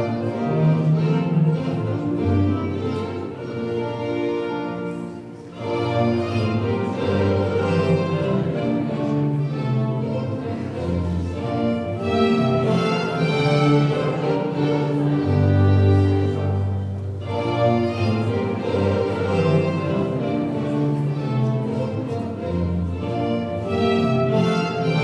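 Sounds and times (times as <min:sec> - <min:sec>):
baroque string music: 0:00.0 - 0:25.0.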